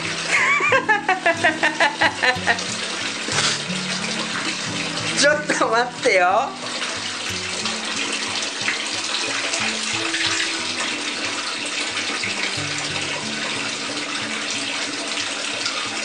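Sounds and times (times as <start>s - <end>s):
faint background music: 0.0s - 16.0s
water splashing into tank: 0.0s - 16.0s.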